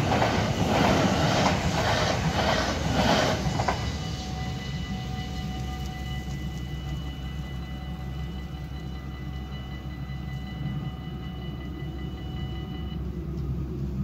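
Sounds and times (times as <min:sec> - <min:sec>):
railroad crossing bells ringing: 0:00.0 - 0:14.0
low continuous rumble: 0:01.5 - 0:14.0.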